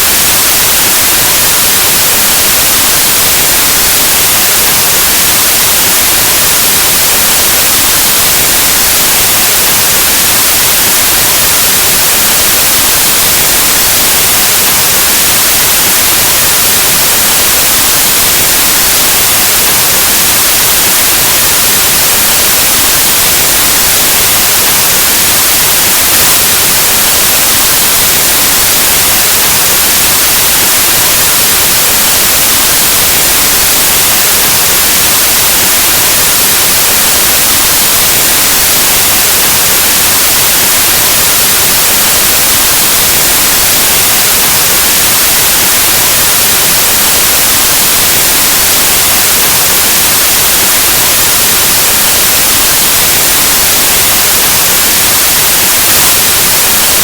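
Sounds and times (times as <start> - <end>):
loud steady white noise hiss: 0.0 - 57.0.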